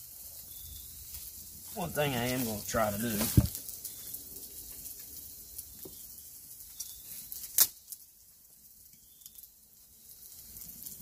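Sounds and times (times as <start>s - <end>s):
eggs sizzling in a skillet: 0.0s - 11.0s
wood fire crackling: 0.0s - 11.0s.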